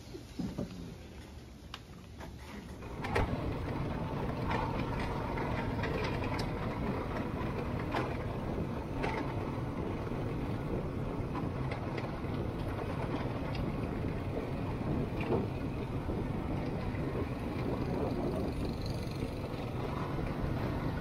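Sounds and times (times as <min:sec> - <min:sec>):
vehicle rumble: 0:00.0 - 0:21.0
knocks and rattles: 0:02.8 - 0:21.0.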